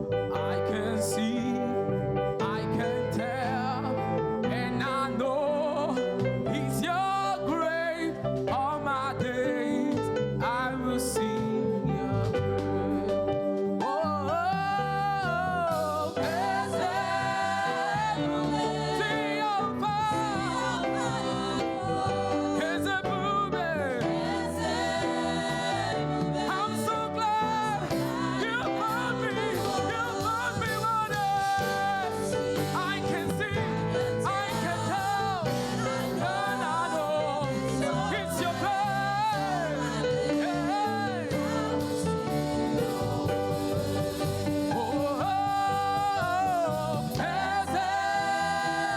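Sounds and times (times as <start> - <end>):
band accompaniment: 0.0 - 48.9
voices singing gospel: 0.0 - 48.9.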